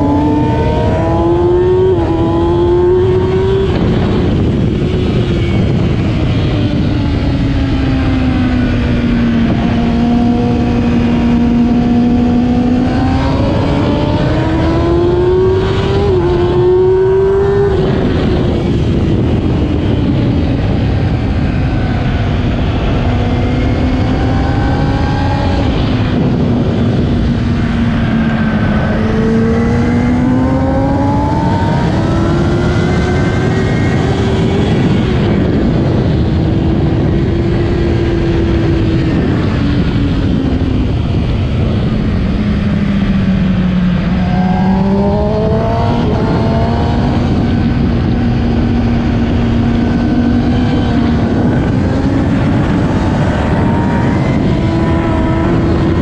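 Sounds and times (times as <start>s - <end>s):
motorcycle engine at race pace: 0.0s - 56.0s
wind rushing: 0.0s - 56.0s.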